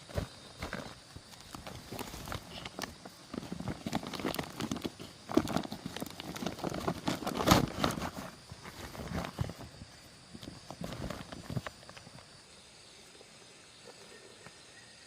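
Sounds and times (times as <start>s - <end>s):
footsteps on rough ground: 0.0s - 12.3s.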